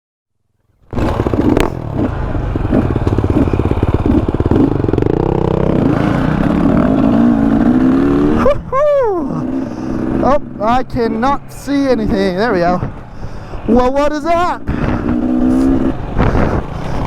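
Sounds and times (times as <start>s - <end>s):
dirt bike engine accelerating: 0.5s - 13.1s, 14.5s - 17.0s.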